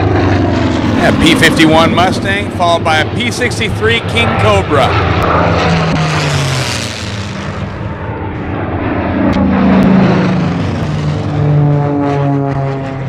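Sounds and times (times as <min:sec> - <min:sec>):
propeller plane engine drone passing: 0:00.0 - 0:13.0
second plane engine drone: 0:00.0 - 0:13.0.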